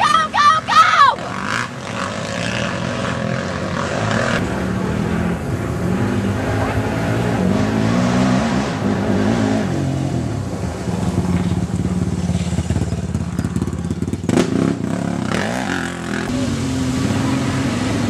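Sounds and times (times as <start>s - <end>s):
quad engine revving: 1.1s - 18.0s.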